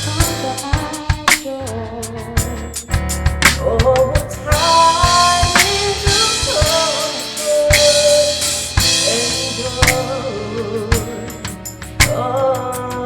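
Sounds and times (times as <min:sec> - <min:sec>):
drum and cymbal hits: 0:00.0 - 0:01.7, 0:02.3 - 0:13.0.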